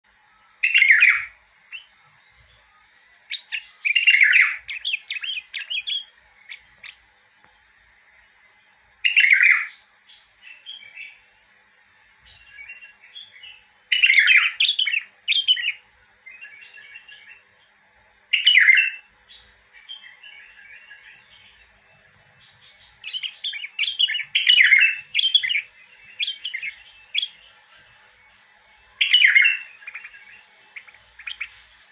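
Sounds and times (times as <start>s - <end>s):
bird singing: 0.1s - 31.9s.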